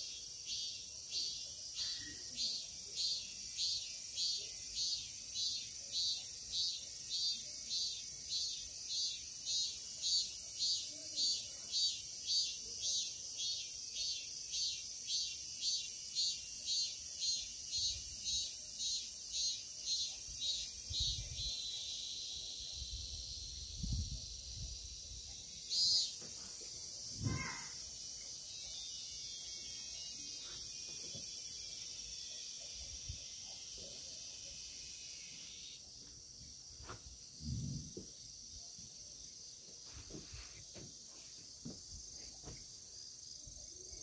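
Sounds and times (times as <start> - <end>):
very high-pitched continuous buzz: 0.0 - 35.8
insects singing: 0.0 - 44.0.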